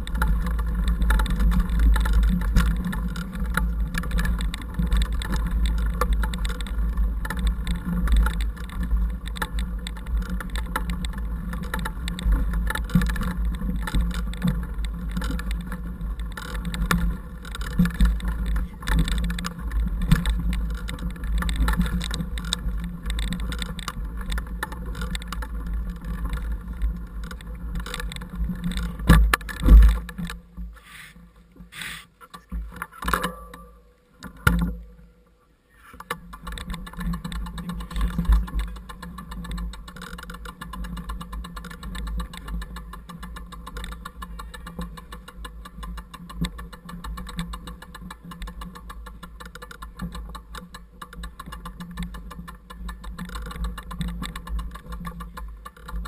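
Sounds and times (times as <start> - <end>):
bike rattling and clicking: 0.0 - 35.2, 35.8 - 56.0.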